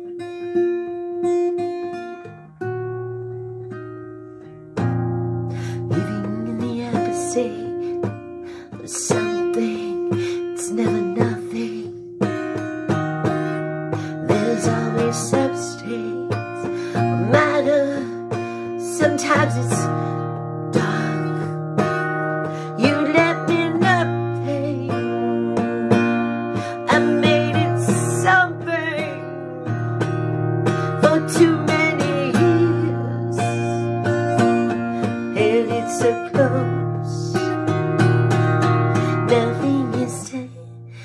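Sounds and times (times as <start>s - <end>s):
woman singing: 0.0s - 1.8s, 5.6s - 41.0s
acoustic guitar chords: 0.0s - 41.0s.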